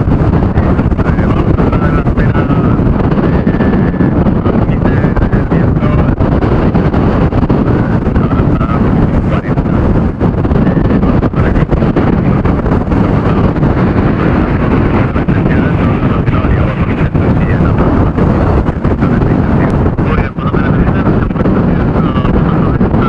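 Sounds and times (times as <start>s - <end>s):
storm wind buffeting microphone: 0.0s - 23.0s.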